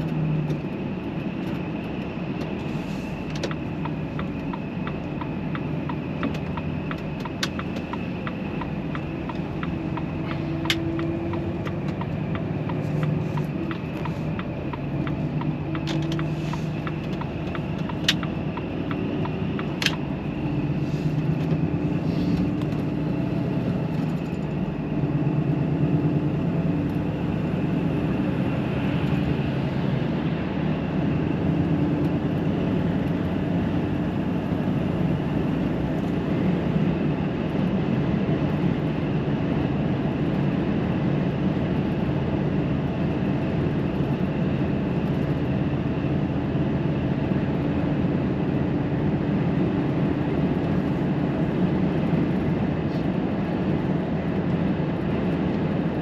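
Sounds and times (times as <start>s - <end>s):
road noise: 0.0s - 56.0s
truck diesel engine droning: 0.0s - 56.0s.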